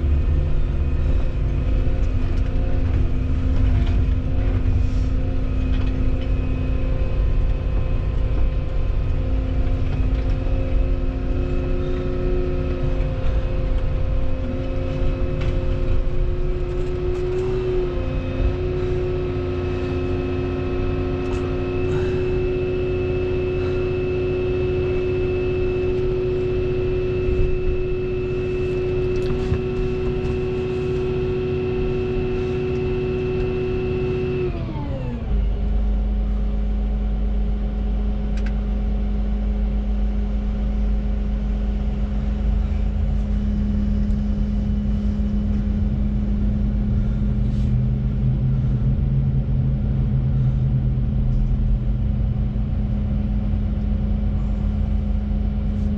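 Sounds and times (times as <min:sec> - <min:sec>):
excavator engine running: 0:00.0 - 0:55.9.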